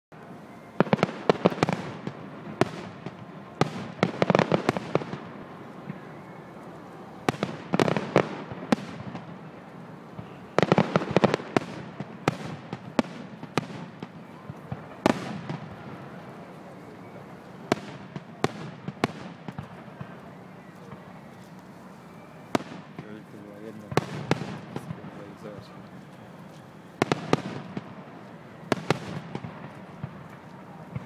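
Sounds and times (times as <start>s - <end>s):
fireworks bangs and crackles: 0.2s - 31.0s.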